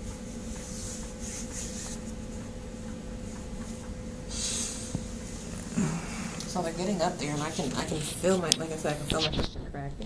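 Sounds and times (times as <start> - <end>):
soft irregular rubbing: 0.0 - 9.6
low electrical hum: 0.0 - 10.0.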